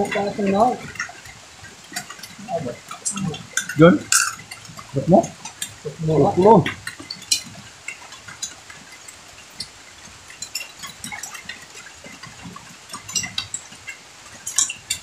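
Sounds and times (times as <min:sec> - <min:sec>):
plates and utensils clinking: 0:00.0 - 0:15.0.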